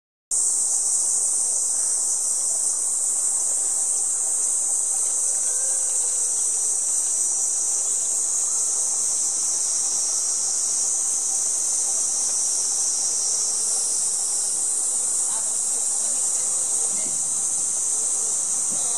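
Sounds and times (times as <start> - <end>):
cicadas buzzing: 0.3 - 18.9.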